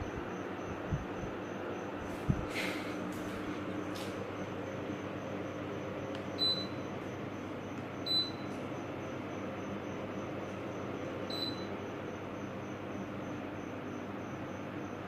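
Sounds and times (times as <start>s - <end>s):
air conditioner fan running: 0.0s - 15.0s.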